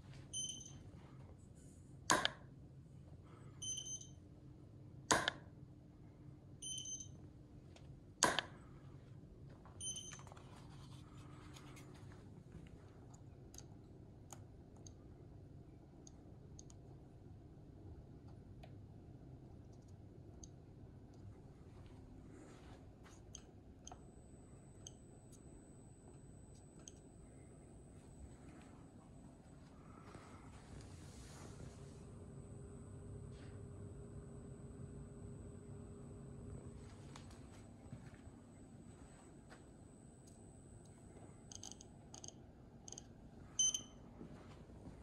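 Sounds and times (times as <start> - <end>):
low steady hum: 0.0 - 45.0
faint high-pitched whine: 8.5 - 45.0.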